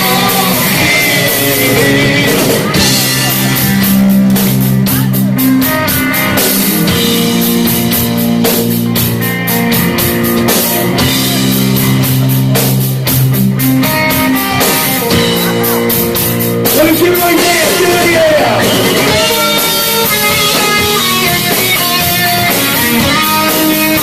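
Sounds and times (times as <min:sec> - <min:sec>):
wavering bending guitar notes: 0:00.0 - 0:16.8, 0:17.4 - 0:24.0
live metal band playing: 0:00.0 - 0:24.0.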